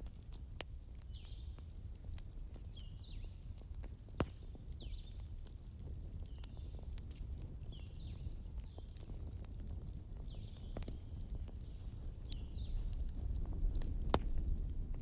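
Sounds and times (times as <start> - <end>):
fire crackling pops: 0.0 - 15.0
fire rumbling: 0.0 - 15.0.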